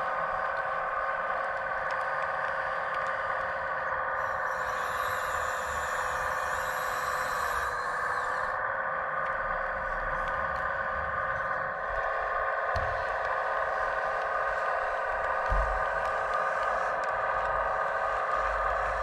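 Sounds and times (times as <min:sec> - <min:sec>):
crane motors whining: 0:00.0 - 0:19.0
higher pitch-shifting whine: 0:00.0 - 0:19.0.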